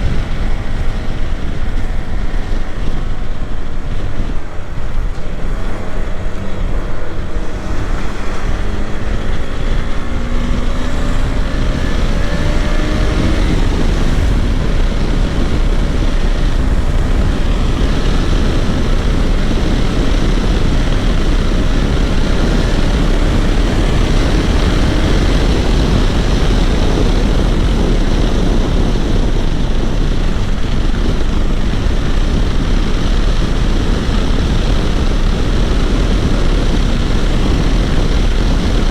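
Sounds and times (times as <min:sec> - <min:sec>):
motorcycle engine accelerating: 0:00.0 - 0:38.9
wind rushing on microphone: 0:00.0 - 0:38.9.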